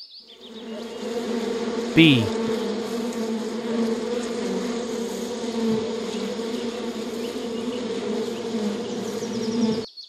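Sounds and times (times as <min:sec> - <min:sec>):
bees buzzing at hive: 0:00.4 - 0:09.9.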